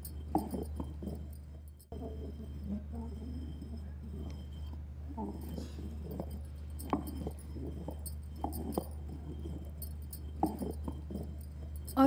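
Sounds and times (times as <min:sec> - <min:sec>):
bangles clinking: 0:00.0 - 0:12.0
low hum: 0:00.0 - 0:12.0
stone pestle grinding in basin: 0:00.0 - 0:12.0.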